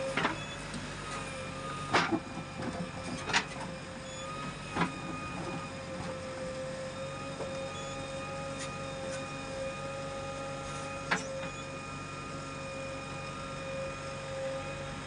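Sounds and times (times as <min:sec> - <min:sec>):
diesel engine and hydraulics whine: 0:00.0 - 0:15.0.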